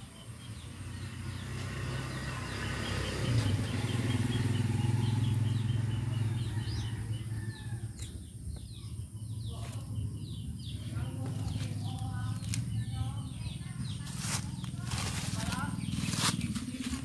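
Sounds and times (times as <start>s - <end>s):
birds chirping: 0.0s - 17.0s
low engine-like hum: 0.0s - 17.0s.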